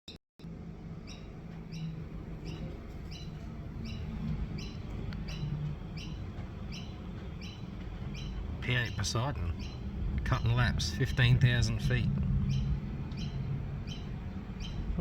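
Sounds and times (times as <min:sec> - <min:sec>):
steady low rumble: 0:00.4 - 0:15.0
small bird chirping: 0:01.0 - 0:11.7, 0:12.4 - 0:15.0.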